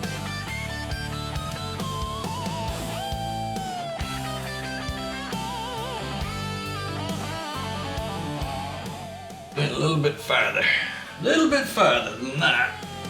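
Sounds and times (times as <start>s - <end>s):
electric guitar bent notes: 0.0s - 13.0s
rock music: 0.0s - 13.0s.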